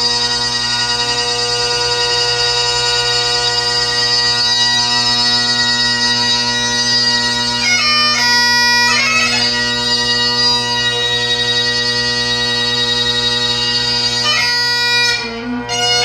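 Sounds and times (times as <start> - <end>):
bagpipe playing: 0.0 - 16.0.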